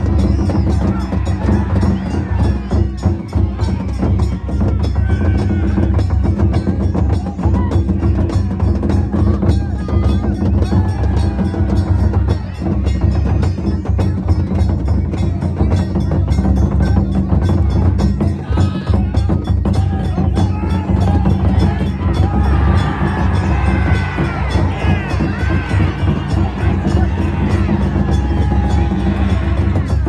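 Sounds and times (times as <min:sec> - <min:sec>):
taiko drums: 0:00.0 - 0:30.0.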